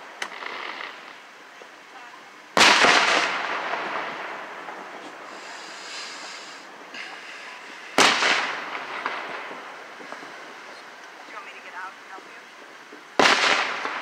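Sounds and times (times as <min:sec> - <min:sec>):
firework shells booming: 0:00.0 - 0:01.2, 0:02.5 - 0:14.0.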